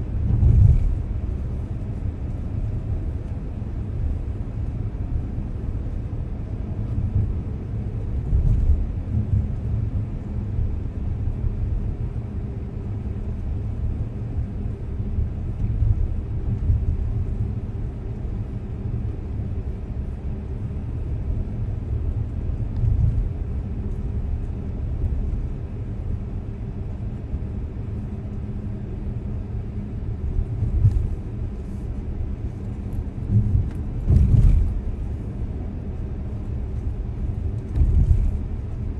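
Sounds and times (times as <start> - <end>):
car engine hum: 0.0 - 38.9
car road noise: 0.0 - 38.9.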